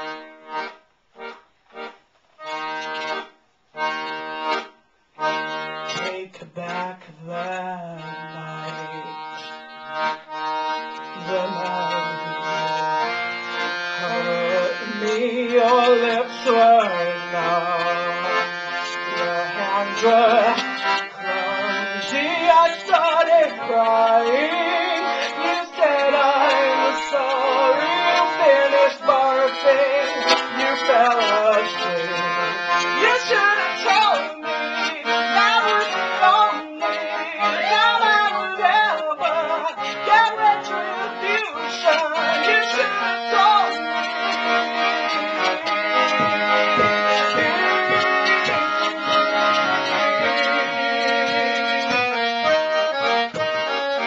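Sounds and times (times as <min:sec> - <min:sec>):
piano accordion playing: 0:00.0 - 0:54.0
person singing wordlessly: 0:05.9 - 0:09.4, 0:11.0 - 0:53.6.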